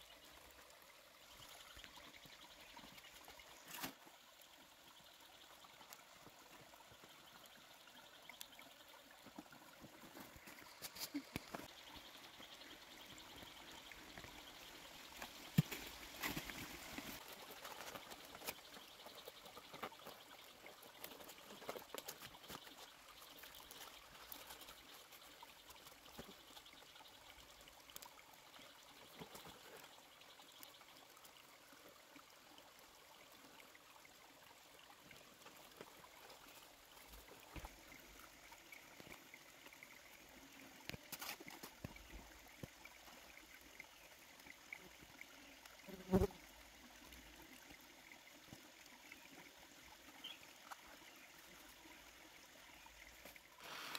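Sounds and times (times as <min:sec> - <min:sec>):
faint trickling water: 0:00.0 - 0:53.9.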